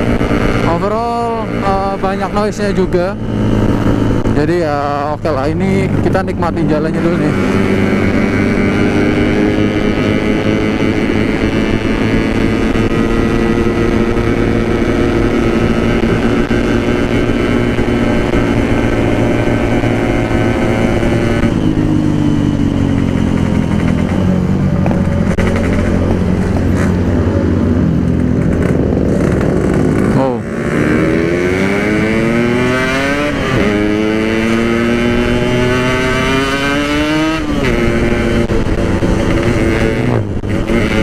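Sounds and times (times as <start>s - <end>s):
two-stroke motorcycle engine running: 0.0s - 41.0s.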